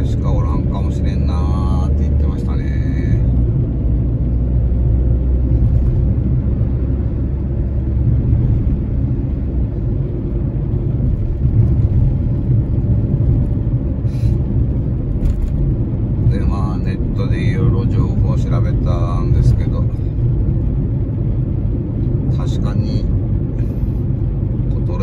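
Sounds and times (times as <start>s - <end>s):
car engine rumble: 0.0s - 25.0s
tyres on the road: 0.0s - 25.0s.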